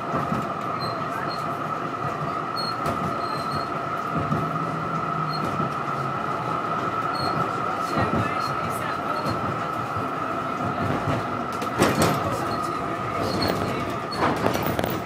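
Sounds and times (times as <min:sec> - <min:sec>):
tram wheels rumbling on track: 0:00.0 - 0:15.0.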